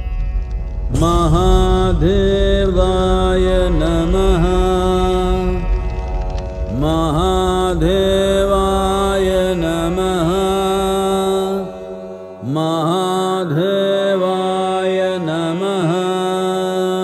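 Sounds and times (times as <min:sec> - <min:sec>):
person chanting a mantra: 0:00.9 - 0:06.0, 0:06.6 - 0:17.0.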